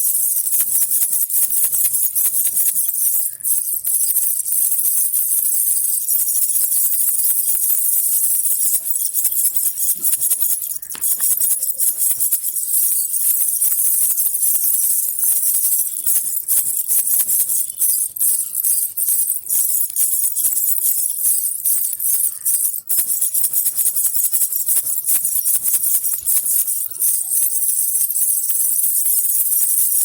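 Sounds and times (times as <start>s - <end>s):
baby rattle jingling: 0.0s - 30.0s.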